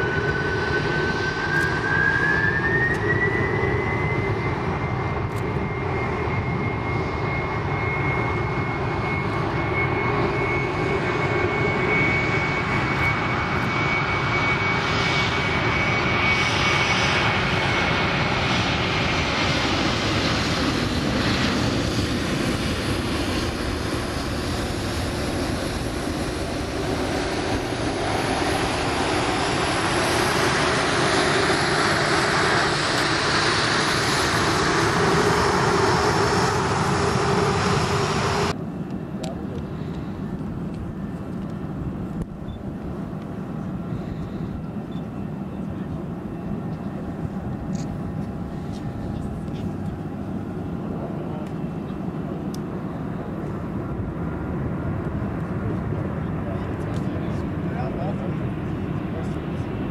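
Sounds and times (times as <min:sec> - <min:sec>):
rising engine whine: 0:00.0 - 0:59.7
jet engines spooling up: 0:00.0 - 0:59.9.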